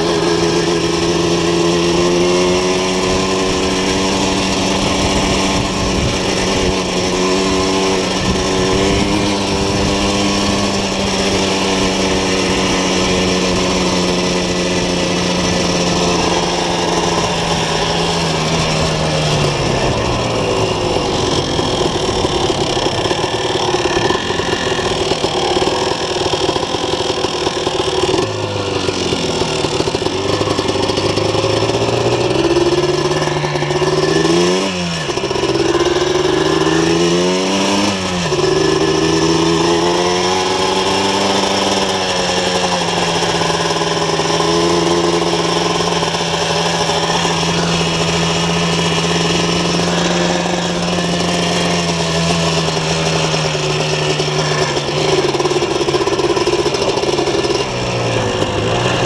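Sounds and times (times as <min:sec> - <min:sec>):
two-stroke quad engine revving: 0:00.0 - 0:59.0.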